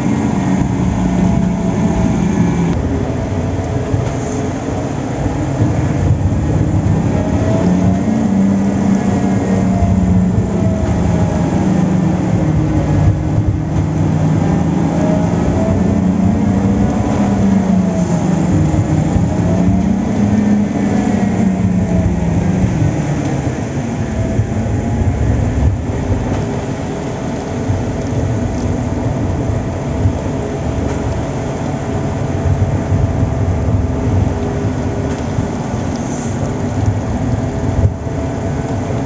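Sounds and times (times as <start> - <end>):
heavy diesel machinery droning: 0.0 - 39.0.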